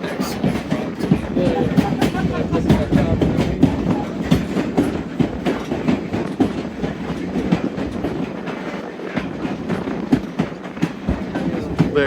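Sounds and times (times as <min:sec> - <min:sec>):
railcar rumbling on track: 0:00.0 - 0:12.0
wheels clicking and knocking: 0:00.0 - 0:12.0.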